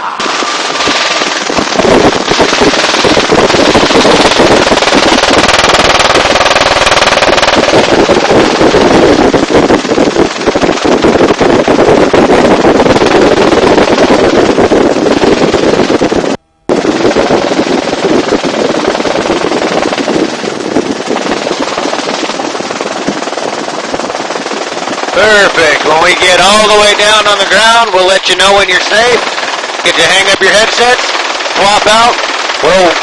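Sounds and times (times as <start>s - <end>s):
helicopter rotor chop: 0.0s - 33.0s.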